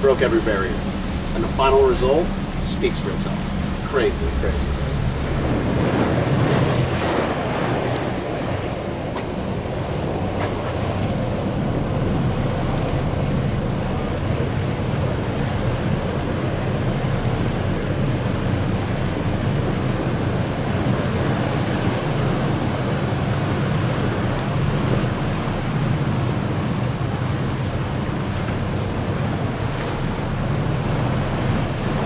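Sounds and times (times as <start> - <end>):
boat engine drone: 0.0 - 32.0
water rushing along hull: 0.0 - 32.0
wind buffeting microphone: 0.0 - 32.0.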